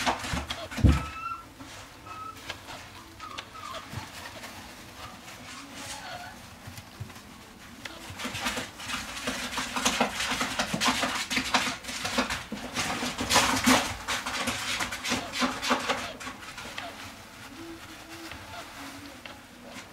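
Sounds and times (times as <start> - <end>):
shredded paper rustling: 0.0 - 19.9.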